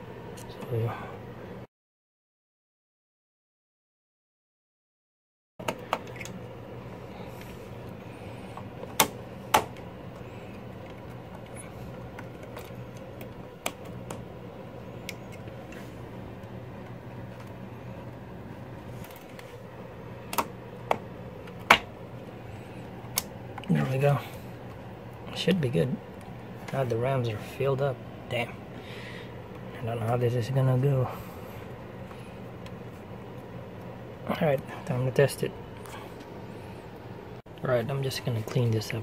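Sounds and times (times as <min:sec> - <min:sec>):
steady low hum: 0:00.0 - 0:01.7, 0:05.6 - 0:39.0.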